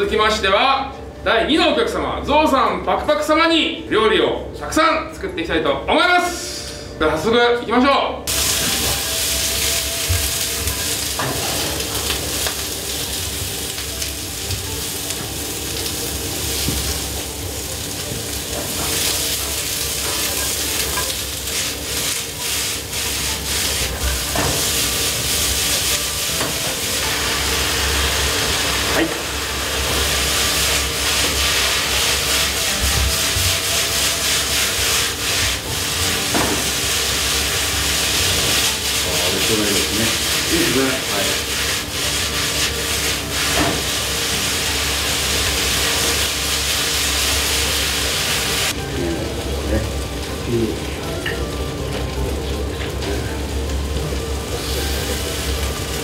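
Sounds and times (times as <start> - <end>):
noodles sizzling in a frying pan: 8.3 - 56.0.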